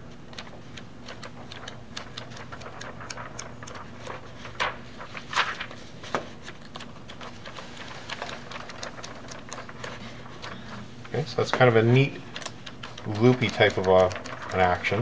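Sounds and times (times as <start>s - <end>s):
steady low hum: 0.0s - 15.0s
paper sheets flicking: 0.3s - 15.0s.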